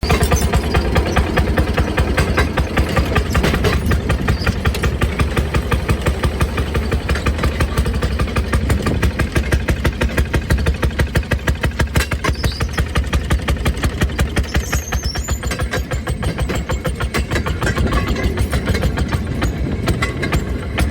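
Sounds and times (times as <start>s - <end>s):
small engine chugging: 0.0s - 20.9s.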